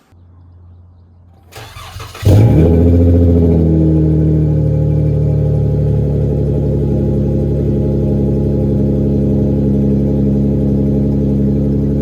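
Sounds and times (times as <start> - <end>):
car engine starting and idling: 1.4 - 12.0.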